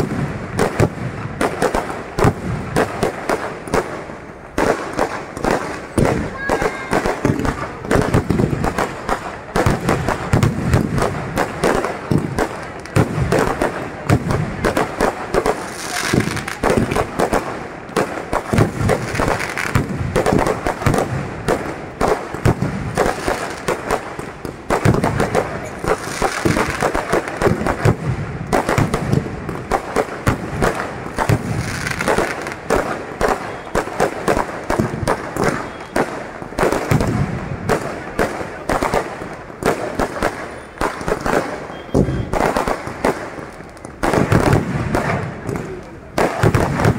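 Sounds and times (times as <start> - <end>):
fireworks bangs and pops: 0.0 - 46.9.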